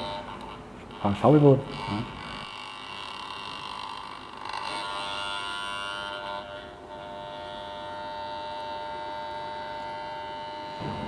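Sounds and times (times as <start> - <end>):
armature tester buzzing: 0.0 - 11.0.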